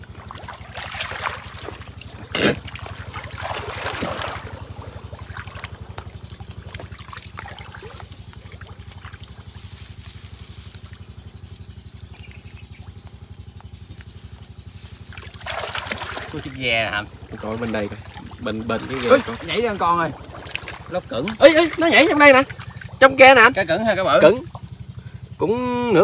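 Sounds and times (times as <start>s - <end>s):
water splashing: 0.0s - 11.1s, 14.0s - 25.2s
small engine running: 0.0s - 26.0s.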